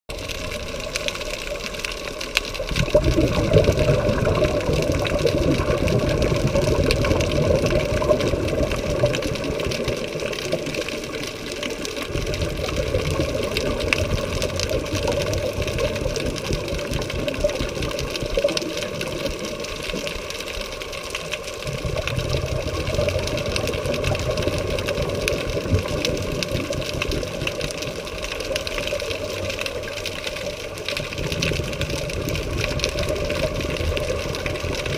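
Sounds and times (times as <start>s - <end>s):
underwater diver bubbles: 0.1s - 34.9s.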